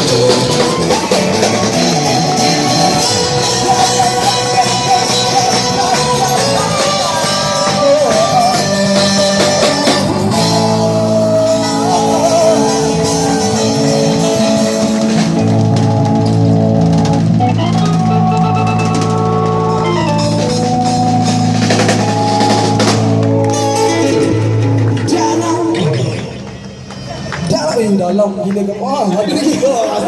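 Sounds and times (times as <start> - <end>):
heavy bass: 0.0 - 28.0
band playing rock music: 0.0 - 30.0.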